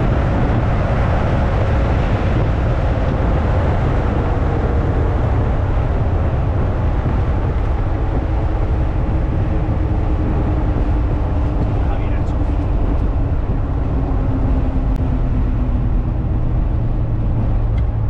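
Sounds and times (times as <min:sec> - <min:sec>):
car engine and road noise drone: 0:00.0 - 0:18.0.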